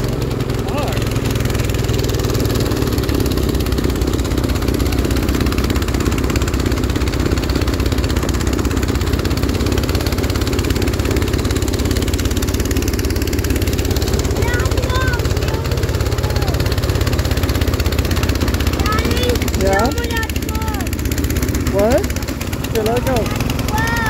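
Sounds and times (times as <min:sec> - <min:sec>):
snowblower engine running: 0:00.0 - 0:24.0.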